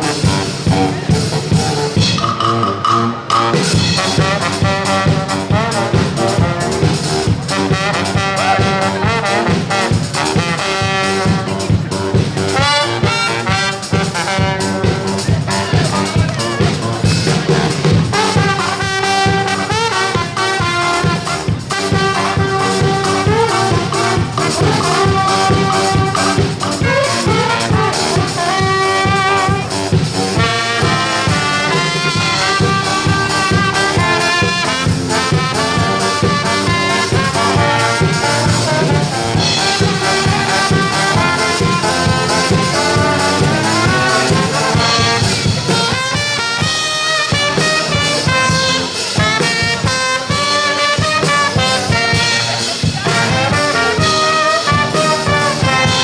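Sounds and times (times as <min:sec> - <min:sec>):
brass band playing upbeat tune: 0:00.0 - 0:56.0.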